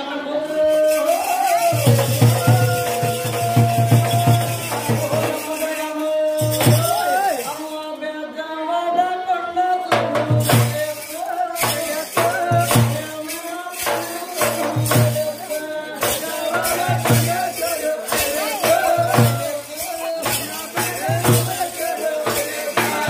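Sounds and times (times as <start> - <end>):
frame drums beating fast: 1.6 - 7.6, 9.9 - 23.0.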